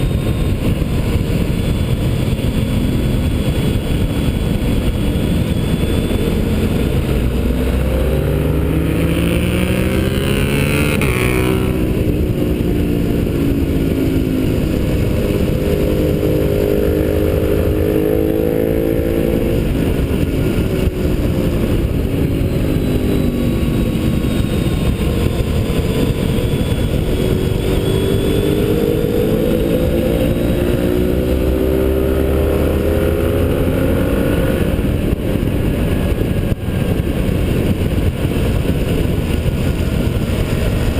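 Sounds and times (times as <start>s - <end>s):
motorcycle engine at speed: 0.0s - 40.9s
wind rushing: 0.0s - 40.9s.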